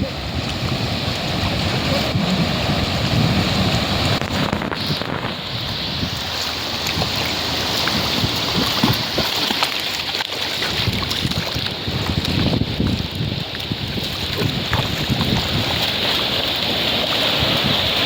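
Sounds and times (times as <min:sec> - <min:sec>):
wind buffeting microphone: 0:00.0 - 0:09.6, 0:10.5 - 0:18.0
sea waves washing on shore: 0:00.0 - 0:18.0.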